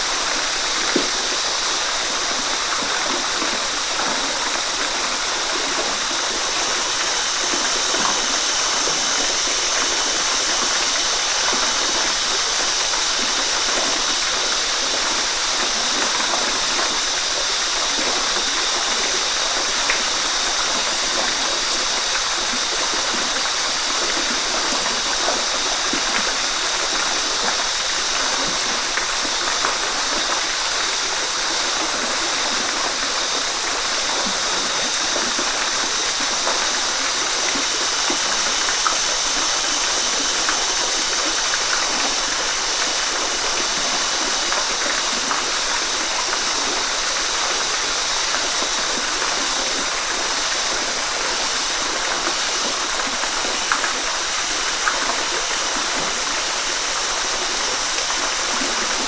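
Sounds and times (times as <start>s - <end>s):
waterfall pouring and splashing: 0.0s - 59.0s.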